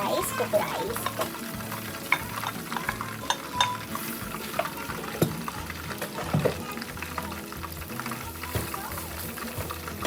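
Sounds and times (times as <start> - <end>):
rice sizzling in oil: 0.0 - 10.0
spatula scraping and tapping pan: 0.5 - 10.0.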